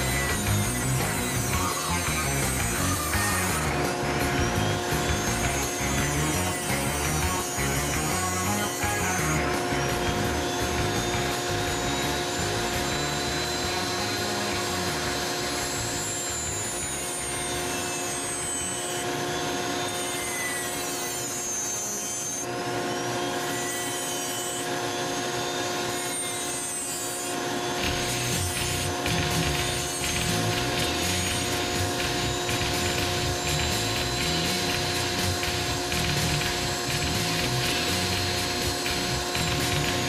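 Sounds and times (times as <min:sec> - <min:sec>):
machine hum: 0:00.0 - 0:40.0
rotary tool grinding wood: 0:00.0 - 0:40.0.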